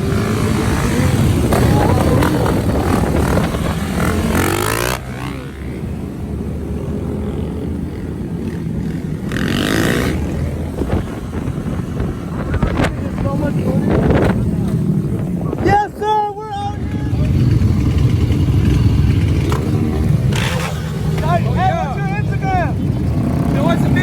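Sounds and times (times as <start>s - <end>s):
rushes of noise: 0.0s - 16.0s, 16.6s - 24.0s
motorcycle engines running: 0.0s - 24.0s.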